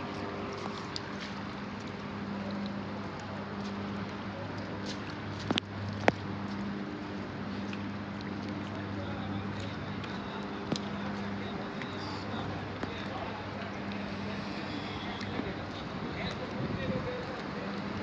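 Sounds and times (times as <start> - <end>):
low vehicle engine hum: 0.0 - 18.0.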